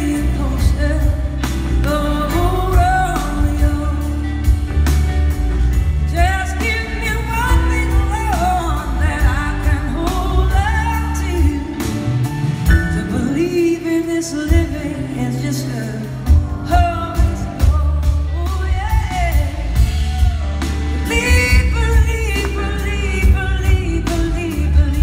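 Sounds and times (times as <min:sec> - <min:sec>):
blues rock band playing: 0:00.0 - 0:25.0.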